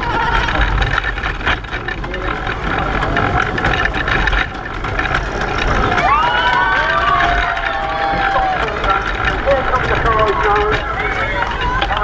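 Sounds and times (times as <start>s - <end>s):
pedal car rattling: 0.0s - 12.0s.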